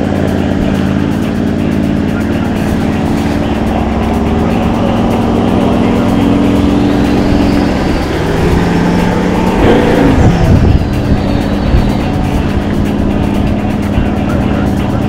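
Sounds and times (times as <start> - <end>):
engine running and revving: 0.0 - 15.0.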